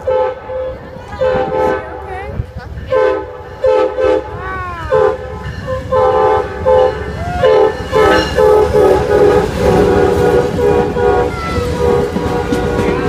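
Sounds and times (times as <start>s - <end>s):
locomotive air horn blasts: 0.0s - 2.1s, 2.8s - 13.0s
wheels rumbling on rails: 0.0s - 13.0s.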